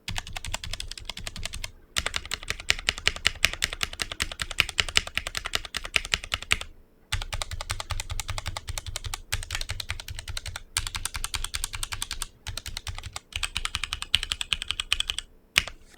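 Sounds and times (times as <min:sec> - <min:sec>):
fast typing on mechanical keyboard: 0:00.0 - 0:15.8.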